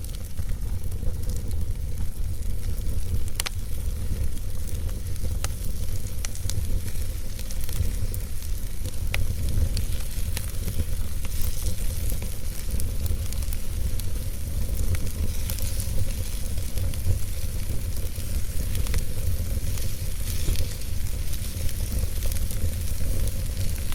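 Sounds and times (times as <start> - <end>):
fireplace fire crackling: 0.0 - 23.9
sharp pops of fire: 0.0 - 23.9.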